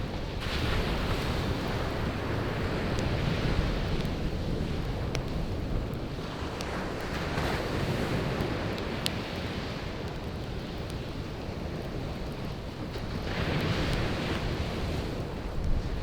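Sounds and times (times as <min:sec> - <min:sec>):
campfire crackling: 0:00.0 - 0:16.0
sea waves washing onto shore: 0:00.0 - 0:16.0.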